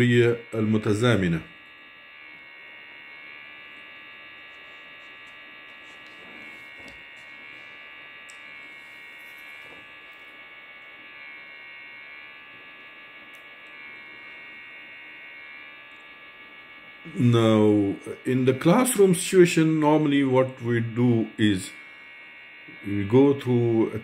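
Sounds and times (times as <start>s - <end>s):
electrical hum with whine: 0.0s - 24.0s.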